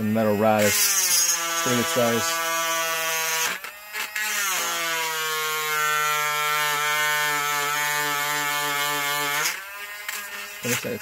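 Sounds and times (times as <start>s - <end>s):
die grinder motor whine: 0.0s - 11.0s.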